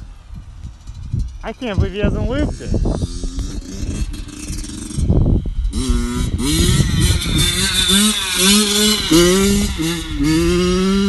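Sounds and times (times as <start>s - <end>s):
motorcycle engine revving through gears: 0.4s - 11.0s.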